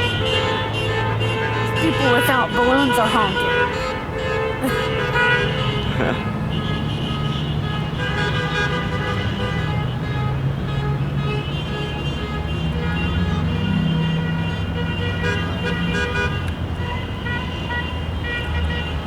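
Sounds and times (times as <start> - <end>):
car horns honking: 0.0 - 19.0
traffic hum: 0.0 - 19.0.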